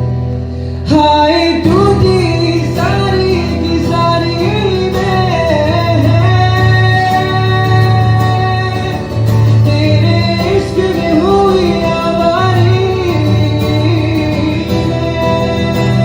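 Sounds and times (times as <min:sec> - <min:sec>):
guitar: 0:00.0 - 0:16.0
person singing: 0:00.8 - 0:16.0.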